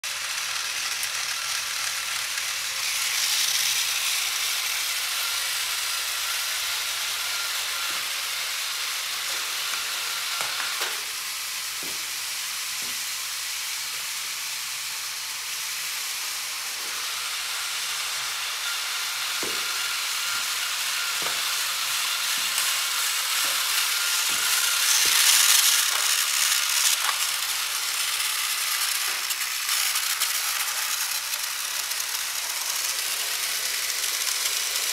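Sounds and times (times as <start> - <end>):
toy train motors whirring: 0.0 - 34.9.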